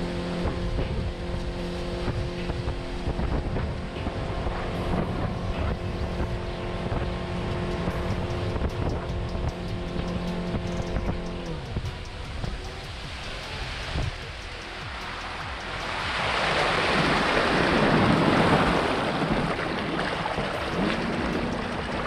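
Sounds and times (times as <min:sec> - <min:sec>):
rushing air and water: 0:00.0 - 0:09.9, 0:11.0 - 0:22.0
boat motor running: 0:00.0 - 0:22.0
wind buffeting microphone: 0:00.0 - 0:22.0.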